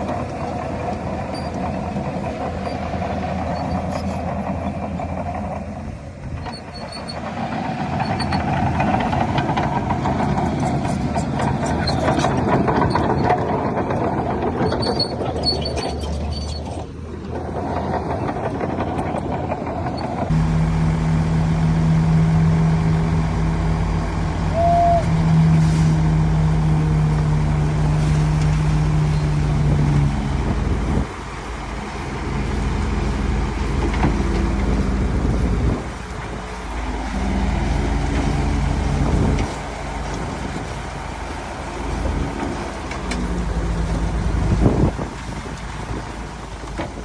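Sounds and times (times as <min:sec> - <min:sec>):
diesel machinery engine running: 0:00.0 - 0:47.0.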